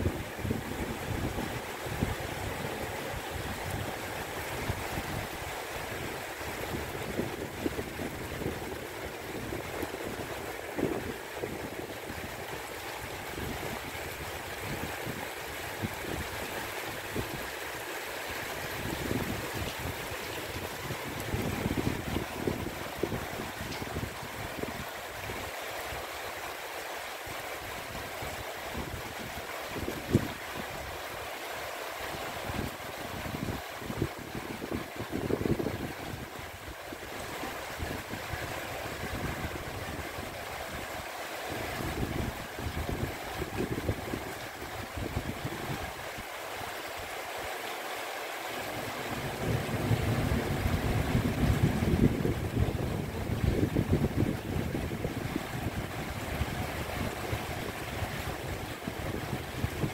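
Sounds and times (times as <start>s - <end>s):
wind rumbling on microphone: 0.0s - 26.0s, 27.3s - 31.1s, 32.1s - 47.1s, 48.7s - 59.9s
heavy rain pouring: 0.0s - 59.9s.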